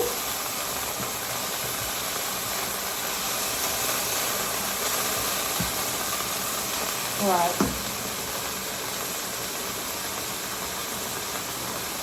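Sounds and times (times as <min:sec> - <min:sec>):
chicken frying in a pan: 0:00.0 - 0:12.0.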